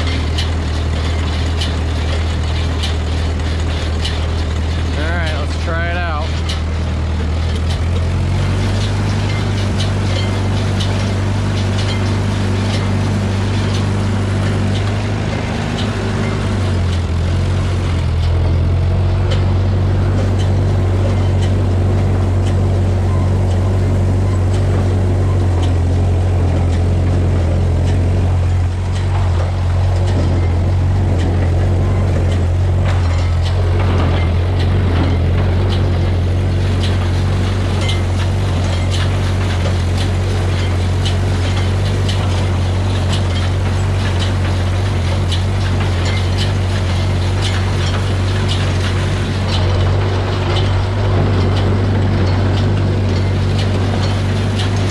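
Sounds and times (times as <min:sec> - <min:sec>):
baler clattering: 0:00.0 - 0:54.9
tractor engine running: 0:00.0 - 0:54.9.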